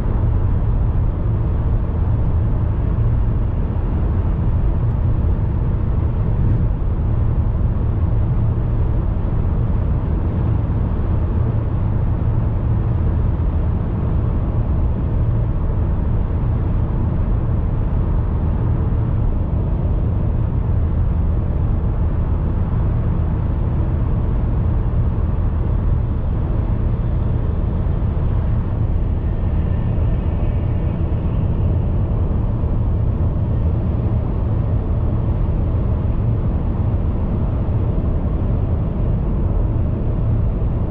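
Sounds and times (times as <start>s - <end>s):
car driving rumble: 0.0s - 40.9s.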